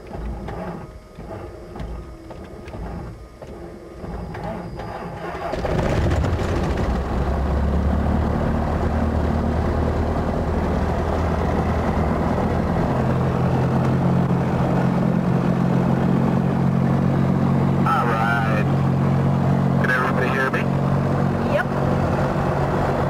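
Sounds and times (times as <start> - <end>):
propeller airplane engine running: 0.0 - 23.0.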